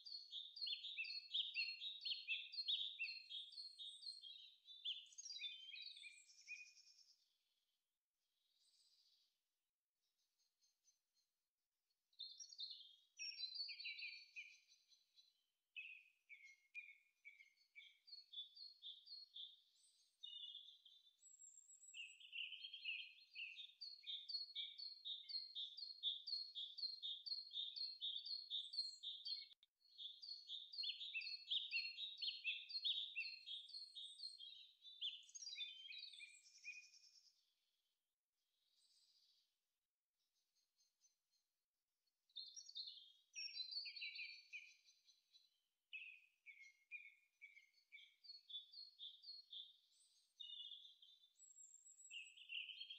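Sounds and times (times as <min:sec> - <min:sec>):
songbirds chirping and trilling: 0:00.0 - 0:07.4, 0:08.5 - 0:09.3, 0:12.1 - 0:37.6, 0:38.6 - 0:39.4, 0:42.3 - 0:52.9.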